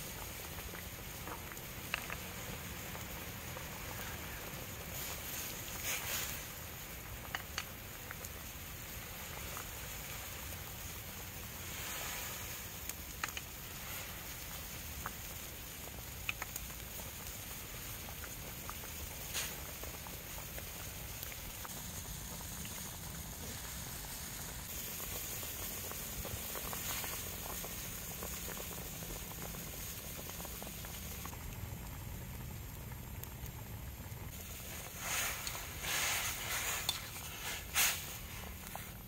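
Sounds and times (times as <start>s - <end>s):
soup bubbling in a wok: 0.0s - 39.0s.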